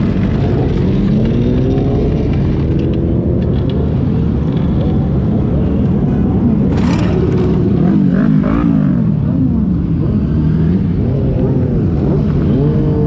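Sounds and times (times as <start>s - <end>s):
motorcycle engines accelerating: 0.0s - 13.0s.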